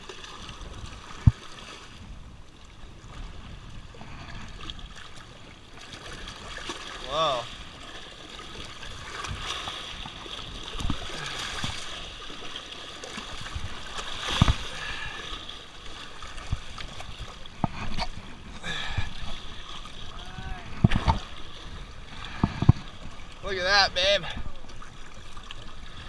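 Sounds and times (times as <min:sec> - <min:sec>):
small waves splashing on rocks: 0:03.2 - 0:26.0.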